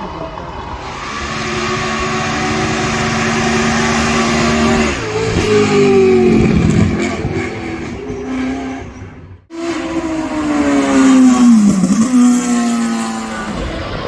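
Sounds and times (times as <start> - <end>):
race car engine at high revs passing: 0.6 - 14.0.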